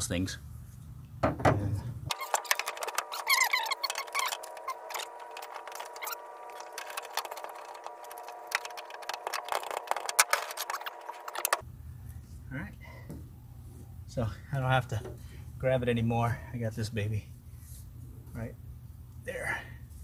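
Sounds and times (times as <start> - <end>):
steady multi-tone hum: 0.0 - 20.0.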